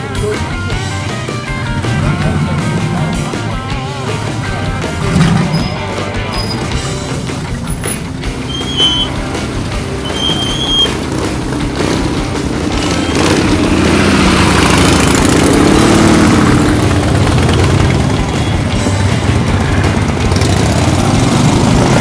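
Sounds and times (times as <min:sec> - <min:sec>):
motorcycles rolling past: 0:00.0 - 0:22.0
pickup truck engine passing: 0:00.0 - 0:22.0.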